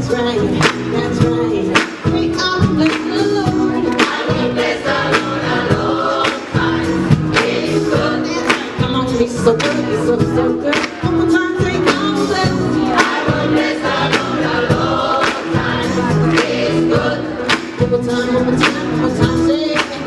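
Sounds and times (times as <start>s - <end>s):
drum kit beat: 0.0s - 20.0s
gospel choir singing: 2.8s - 10.9s, 11.6s - 20.0s.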